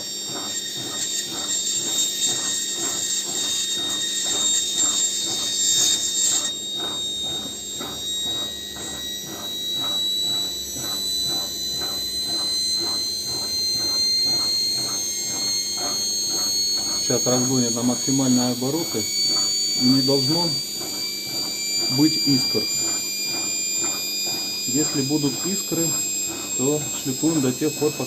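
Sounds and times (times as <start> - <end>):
motor whining: 0.0 - 28.0
stone grinding on spinning armature: 0.0 - 28.0.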